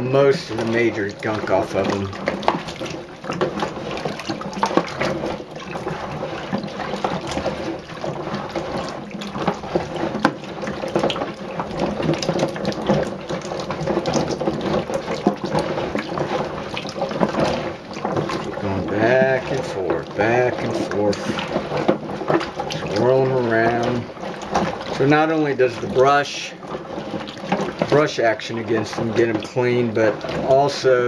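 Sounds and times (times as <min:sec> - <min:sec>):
water sloshing: 0:00.0 - 0:31.0.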